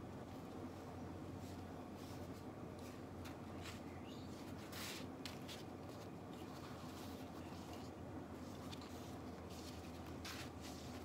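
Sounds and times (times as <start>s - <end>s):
faint low hum: 0.0s - 11.0s
tortilla wrap rustling and scraping: 1.5s - 11.0s.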